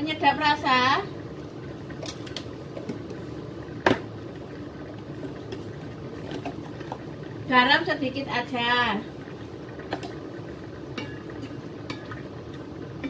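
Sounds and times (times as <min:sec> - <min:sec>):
pot simmering and bubbling: 0:00.0 - 0:13.0.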